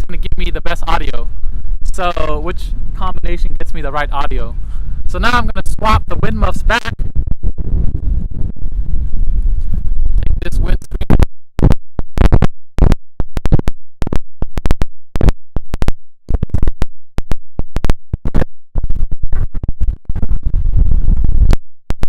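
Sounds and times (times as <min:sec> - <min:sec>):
low rumble with crackling: 0:00.0 - 0:22.0
microphone handling scratching: 0:00.0 - 0:22.0.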